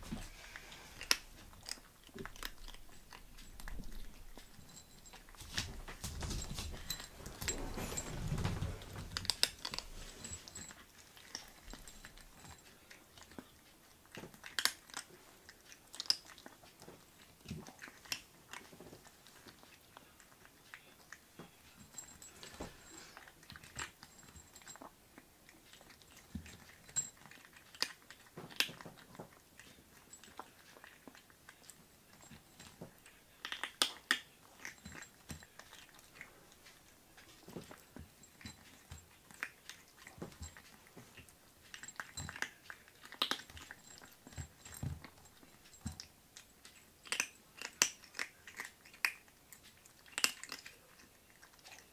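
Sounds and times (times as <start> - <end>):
kittens crunching dry kibble: 0.0 - 51.9.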